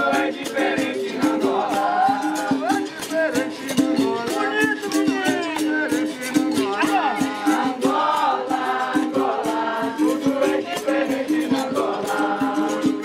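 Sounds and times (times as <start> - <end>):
shaker rattle: 0.0 - 13.0
voices singing: 0.0 - 13.0.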